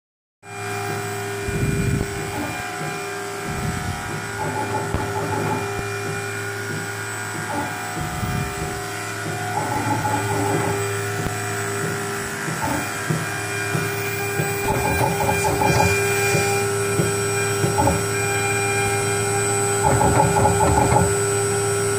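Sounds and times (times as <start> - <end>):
router rattling while cutting: 0.5 - 21.9
router spindle whine: 0.5 - 21.9.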